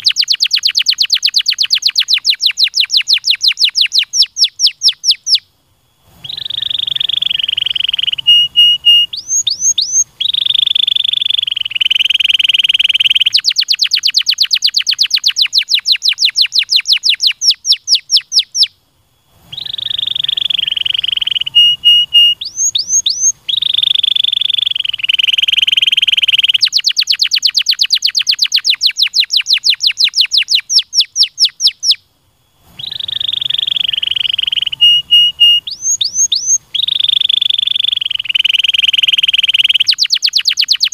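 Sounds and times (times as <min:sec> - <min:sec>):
canary singing: 0:00.0 - 0:05.5, 0:06.1 - 0:18.8, 0:19.4 - 0:40.9.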